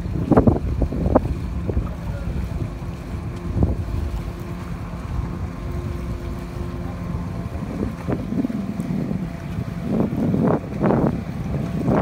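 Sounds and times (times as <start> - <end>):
speedboat engine droning: 0.0 - 12.0
water rushing: 0.0 - 12.0
wind buffeting microphone: 0.0 - 12.0.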